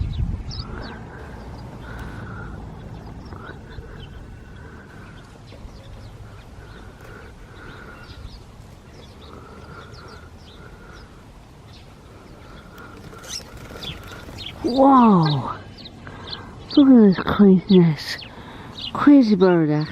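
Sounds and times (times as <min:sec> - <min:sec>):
flock of birds chirping: 0:00.0 - 0:19.9.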